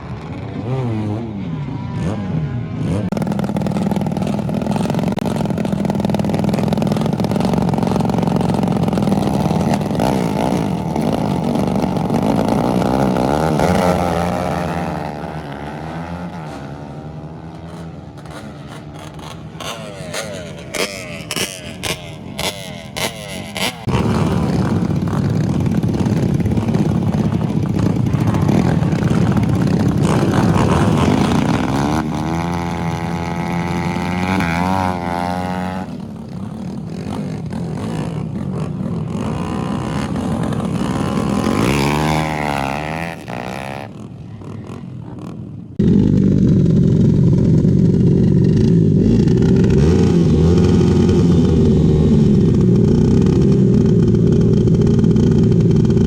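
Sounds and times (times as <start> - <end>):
loud steady engine close by: 0.0 - 56.0
racing motorcycle engines at full throttle: 0.0 - 56.0.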